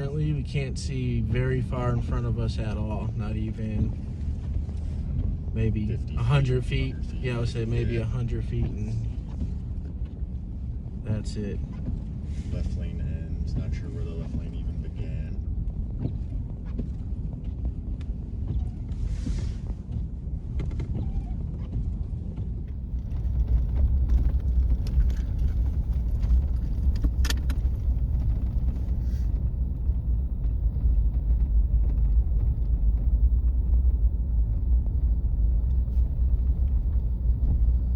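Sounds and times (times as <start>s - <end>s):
car engine and tyre rumble: 0.0s - 37.9s.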